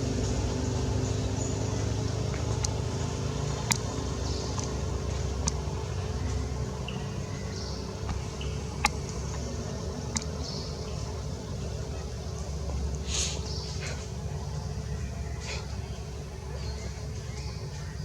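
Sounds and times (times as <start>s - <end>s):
low mechanical drone: 0.0s - 18.0s.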